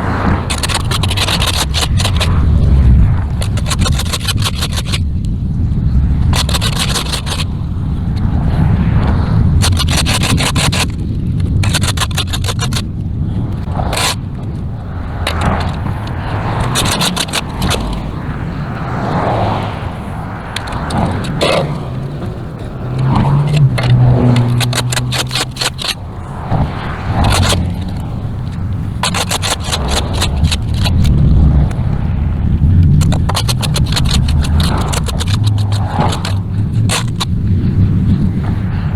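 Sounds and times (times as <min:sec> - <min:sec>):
trimmer line ticking and scraping: 0:00.0 - 0:38.9.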